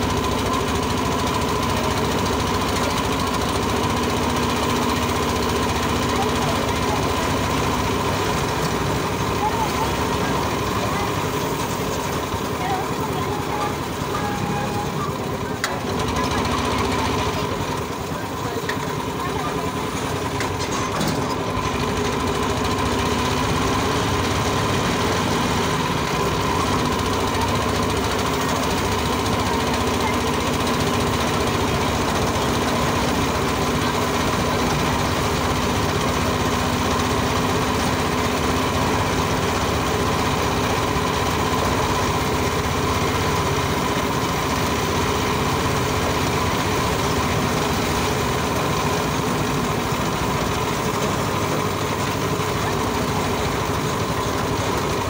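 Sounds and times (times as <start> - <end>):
small motorcycle engine running: 0.0 - 55.0.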